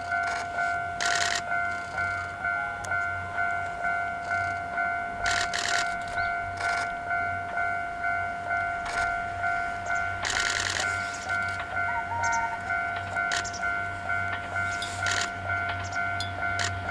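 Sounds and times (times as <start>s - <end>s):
level-crossing warning bell ringing: 0.0s - 16.9s.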